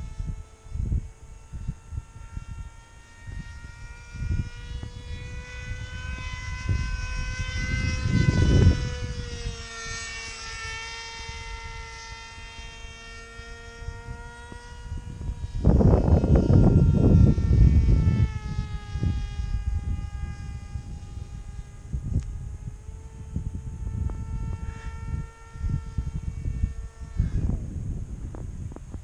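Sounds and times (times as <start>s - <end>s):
model aircraft motor whining: 0.0s - 29.0s
wind buffeting microphone: 0.0s - 29.0s.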